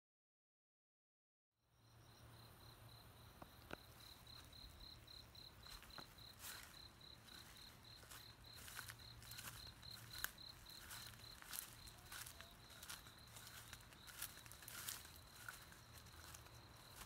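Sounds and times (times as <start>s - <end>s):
insect chirping: 1.6s - 17.0s.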